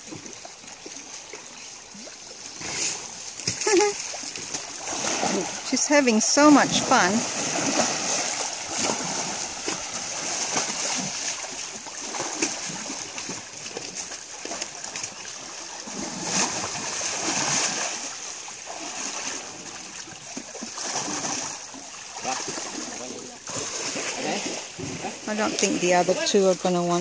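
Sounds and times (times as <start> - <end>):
elephant splashing in mud: 2.5 - 27.0.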